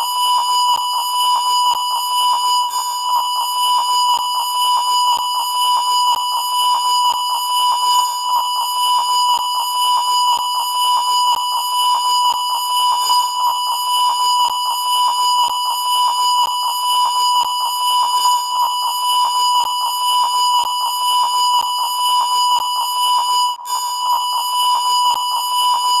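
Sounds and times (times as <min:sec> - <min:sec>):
steady test tone beep: 0:00.0 - 0:26.0.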